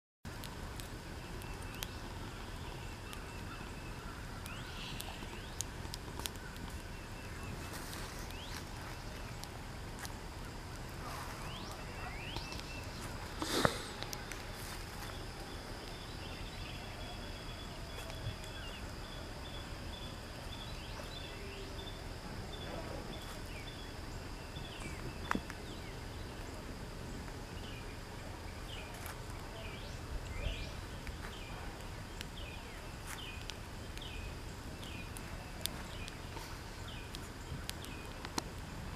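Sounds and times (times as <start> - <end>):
high insect drone: 0.6 - 38.9
bird chirping: 1.0 - 38.9.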